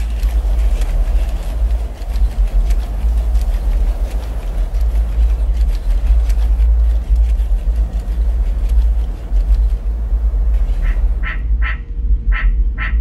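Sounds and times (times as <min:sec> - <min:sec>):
deep low rumble: 0:00.0 - 0:13.0.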